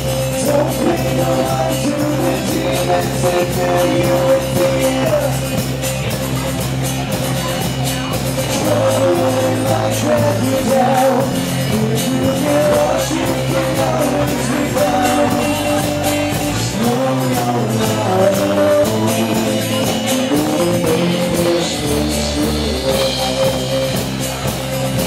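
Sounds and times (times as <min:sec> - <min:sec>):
acoustic guitar: 0:00.0 - 0:25.0
drum kit: 0:00.0 - 0:25.0
electric bass: 0:00.0 - 0:25.0.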